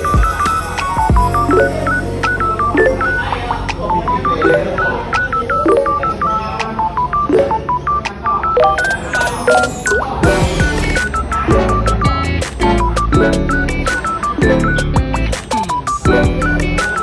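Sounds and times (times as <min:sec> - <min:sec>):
electronic music: 0:00.0 - 0:17.0.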